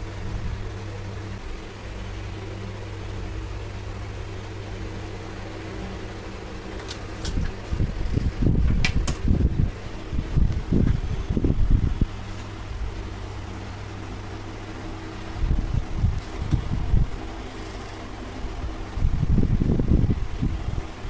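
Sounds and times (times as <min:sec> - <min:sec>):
fan humming: 0:00.0 - 0:21.0.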